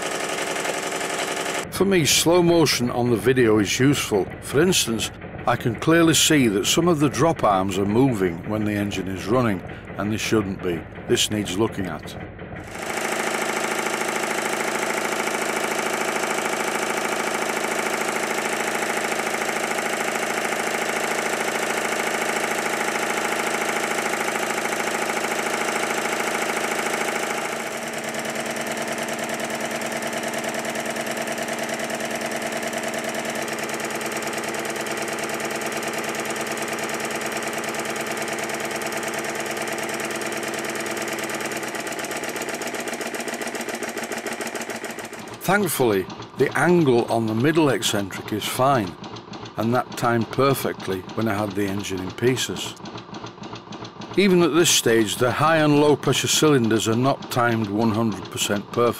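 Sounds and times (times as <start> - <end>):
model steam engine running: 0.0 - 58.9.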